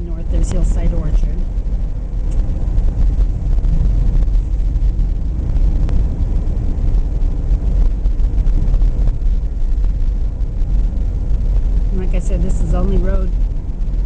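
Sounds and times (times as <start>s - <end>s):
vehicle engine and tyre rumble: 0.0s - 14.0s.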